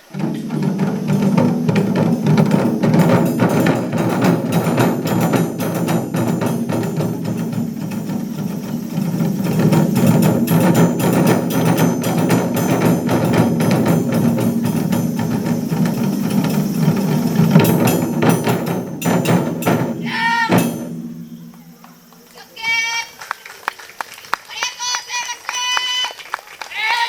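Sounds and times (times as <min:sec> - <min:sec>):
taiko drum ensemble playing: 0:00.0 - 0:22.3.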